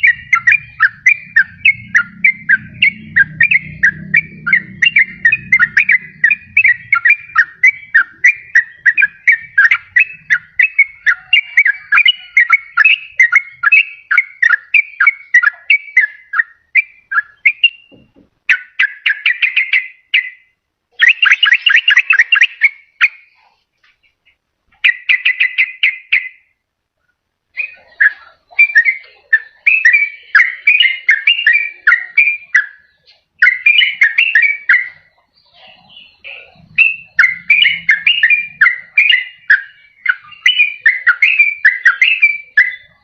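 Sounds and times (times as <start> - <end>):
bird singing bubbly notes: 0.0 - 23.4, 24.8 - 26.6, 27.6 - 43.0
bird chattering trills: 0.0 - 26.5, 27.6 - 43.0.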